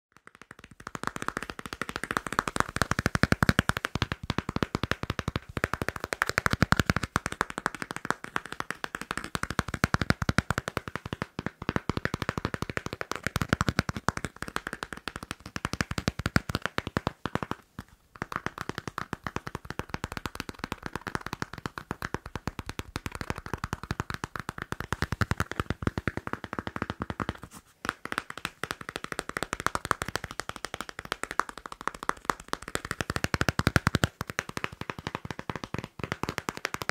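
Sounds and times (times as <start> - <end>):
fast tapping and scratching on paper: 0.1 - 36.9.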